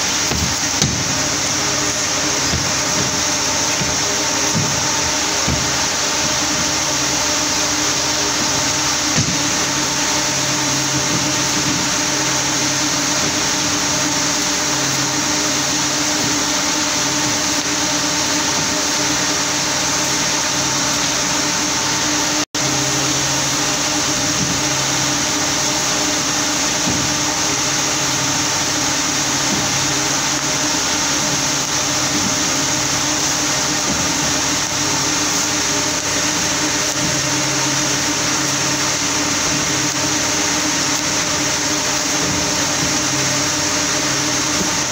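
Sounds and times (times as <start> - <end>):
machinery hum: 0.0 - 44.9
textile machinery hissing: 0.0 - 44.9.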